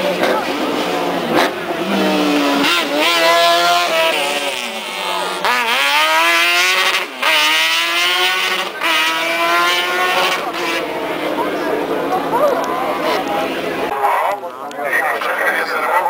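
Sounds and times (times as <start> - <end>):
race car engines accelerating: 0.0 - 16.0.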